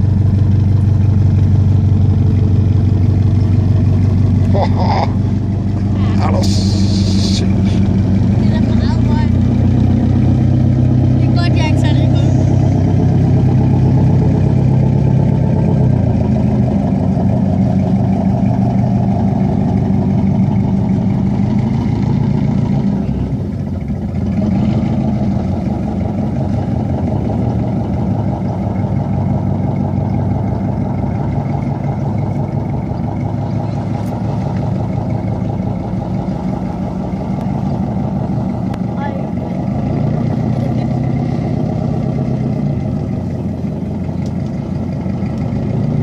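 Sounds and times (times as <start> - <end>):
boat diesel engines droning: 0.0 - 46.0.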